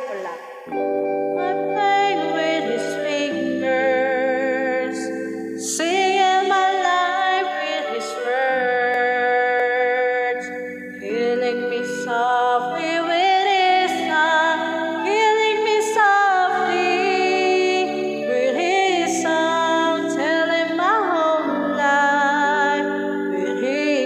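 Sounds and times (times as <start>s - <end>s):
backing track of sustained chords: 0.0s - 24.0s
woman singing with vibrato: 1.4s - 24.0s.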